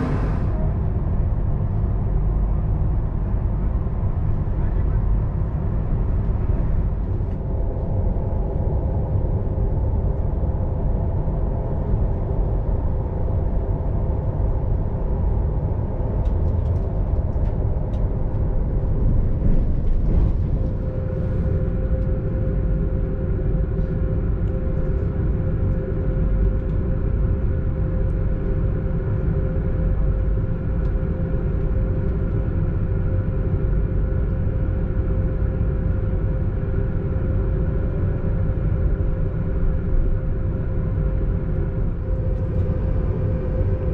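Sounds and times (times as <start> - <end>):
train low rumble: 0.0 - 43.9.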